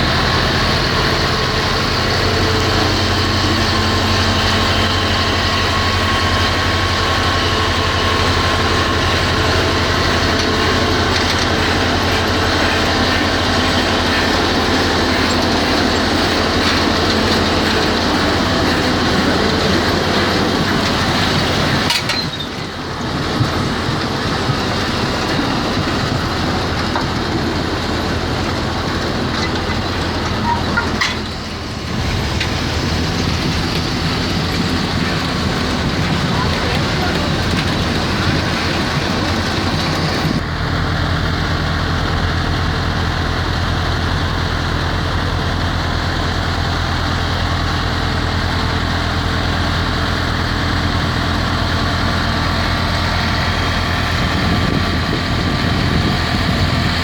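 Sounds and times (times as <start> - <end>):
harvester machine clattering: 0.0 - 57.0.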